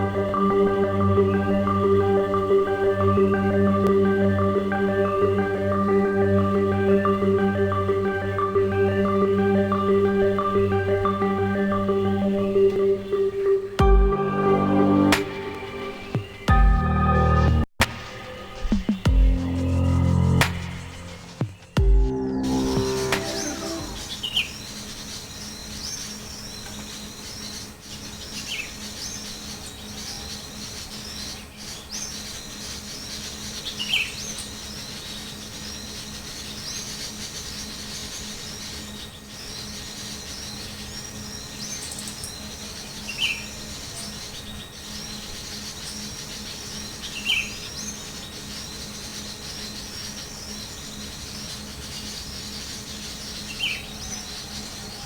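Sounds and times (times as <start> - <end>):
small birds chirping: 0.0 - 17.6, 18.5 - 55.0.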